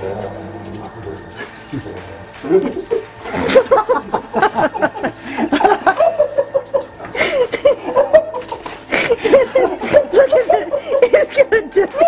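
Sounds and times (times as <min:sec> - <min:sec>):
people laughing hard: 0:01.4 - 0:12.0.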